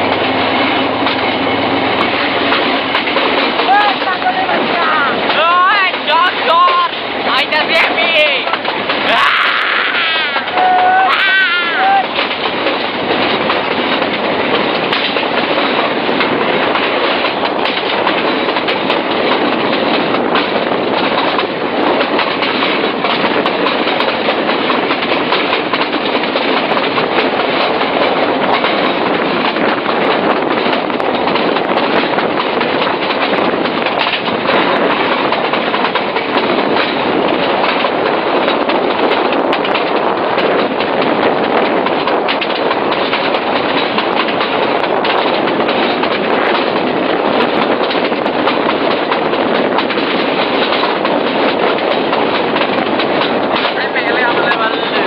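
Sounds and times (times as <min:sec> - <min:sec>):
rush of wheels on rail: 0:00.0 - 0:55.0.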